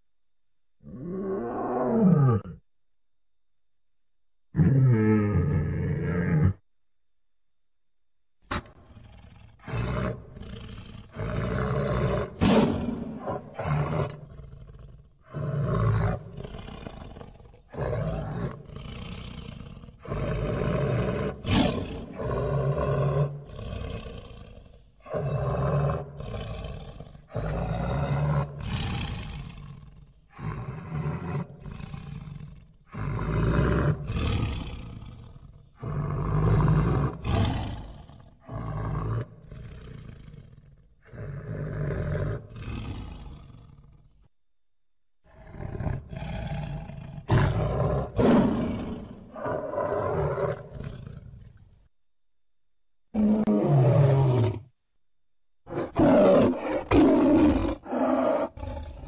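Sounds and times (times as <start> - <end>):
big cat roaring: 0.8 - 2.6, 4.5 - 6.6, 8.5 - 44.3, 45.2 - 51.8, 53.1 - 54.7, 55.6 - 59.0.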